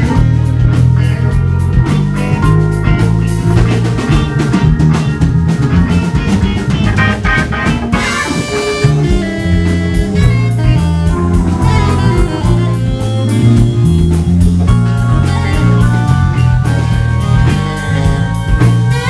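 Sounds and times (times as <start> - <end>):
bass: 0.0 - 19.0
busy drumming: 0.0 - 19.0
organ playing: 0.0 - 19.0.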